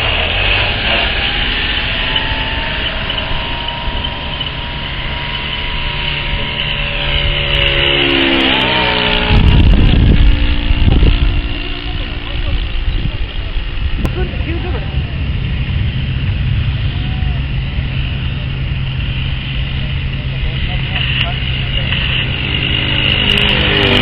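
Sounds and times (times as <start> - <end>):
loud low rumble: 0.0 - 24.0
model airplane engine running: 0.0 - 24.0.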